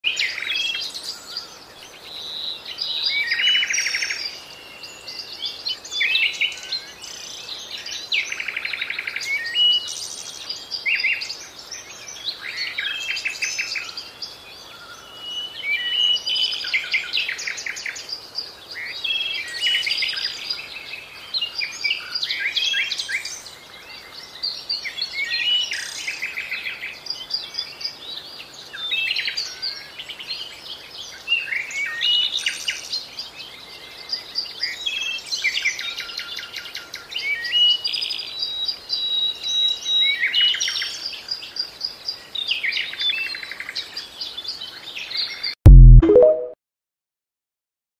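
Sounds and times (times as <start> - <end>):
songbirds singing: 0.0 - 45.6.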